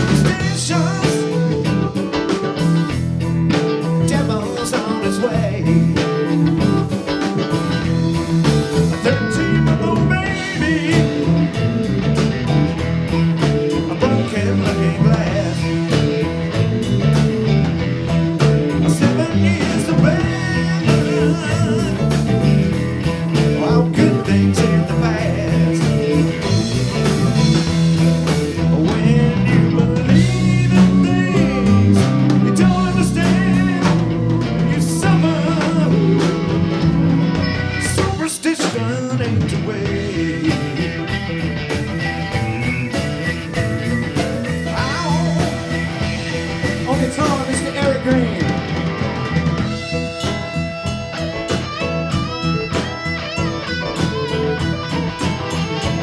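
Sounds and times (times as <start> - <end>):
man singing lead: 0.0 - 2.9, 3.6 - 12.5, 13.4 - 50.8
live blues-rock band: 0.0 - 56.0.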